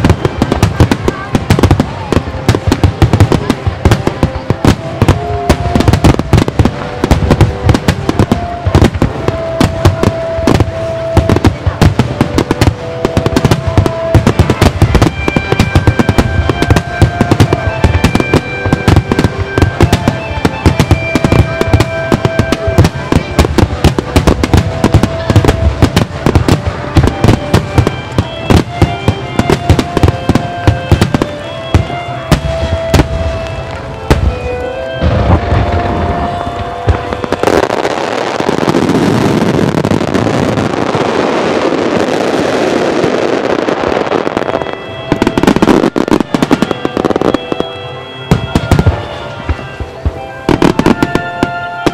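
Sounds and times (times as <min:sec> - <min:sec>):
fireworks launching and bursting: 0:00.0 - 0:51.9
music playing: 0:00.0 - 0:51.9.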